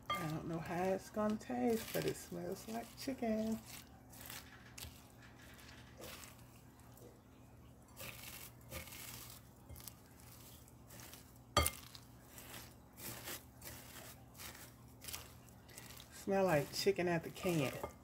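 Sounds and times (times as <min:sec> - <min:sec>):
spatula stirring in glass bowl: 0:00.0 - 0:07.0, 0:07.9 - 0:18.0.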